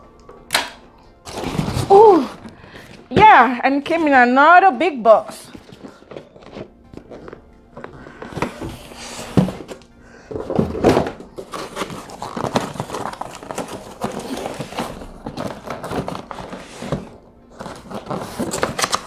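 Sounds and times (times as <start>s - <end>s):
background music: 0.0s - 19.0s
cardboard box handled and opened: 1.2s - 4.2s, 5.2s - 19.0s.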